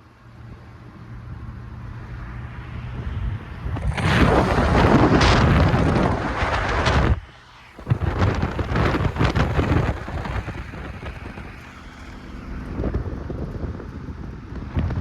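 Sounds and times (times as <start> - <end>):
vehicle engine hum: 0.0 - 15.0
wind buffeting microphone: 2.7 - 15.0.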